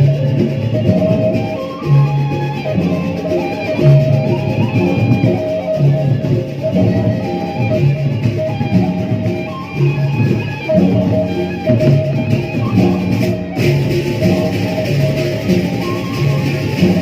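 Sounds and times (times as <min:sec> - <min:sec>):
bamboo flute melody: 0:00.0 - 0:17.0
big drums and tuned percussion: 0:00.0 - 0:17.0.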